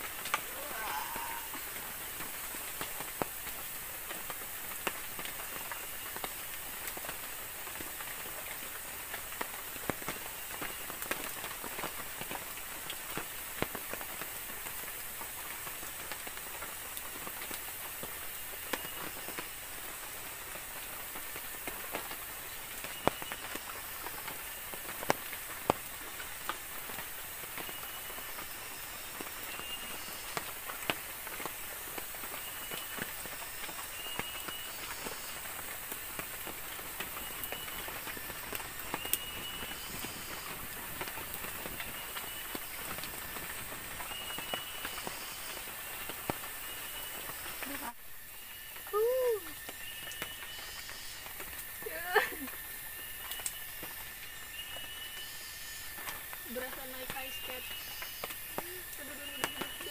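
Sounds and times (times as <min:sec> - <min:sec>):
sharp ticks and pops: 0:00.0 - 0:00.5, 0:01.5 - 0:47.9, 0:49.6 - 0:59.9
steady rain falling: 0:00.0 - 0:59.9.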